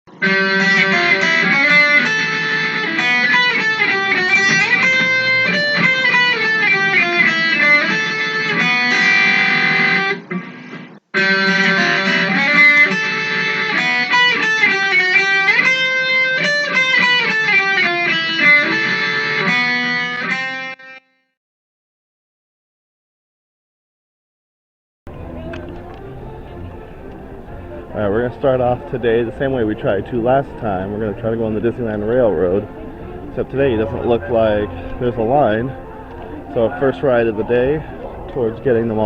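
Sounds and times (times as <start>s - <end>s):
plucked guitar tune: 0.1s - 21.0s, 25.1s - 39.0s.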